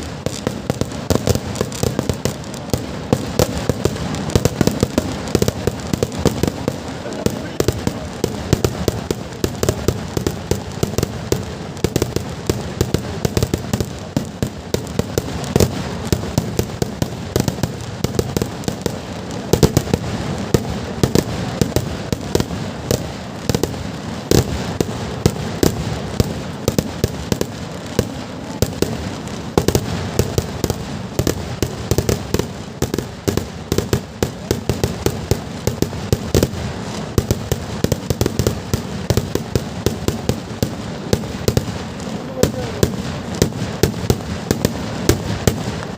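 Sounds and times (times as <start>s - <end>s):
continuous rumble: 0.0s - 45.9s
firecracker bangs: 0.0s - 45.9s.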